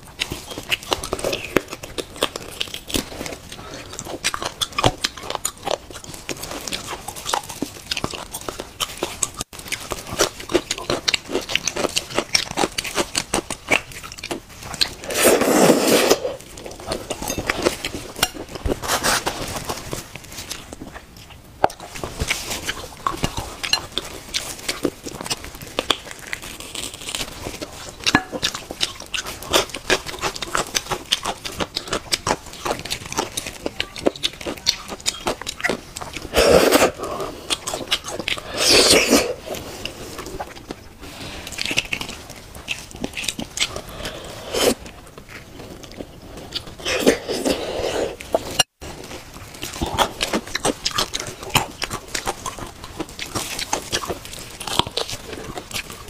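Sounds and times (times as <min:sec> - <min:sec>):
chewing and biting with wet smacks: 0:00.0 - 0:15.5, 0:16.4 - 0:56.0
plastic gloves crinkling: 0:06.0 - 0:44.0, 0:44.8 - 0:56.0.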